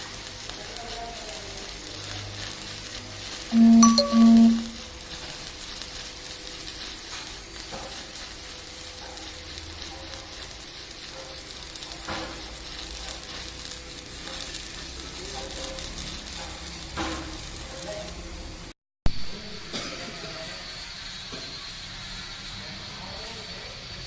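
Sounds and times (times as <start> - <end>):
arc welding crackling sizzle: 0.0 - 19.6.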